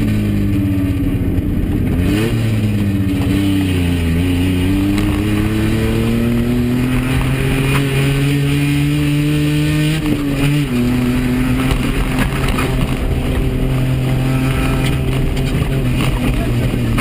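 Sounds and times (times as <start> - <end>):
car engine running hard: 0.0 - 17.0
road noise: 0.0 - 17.0.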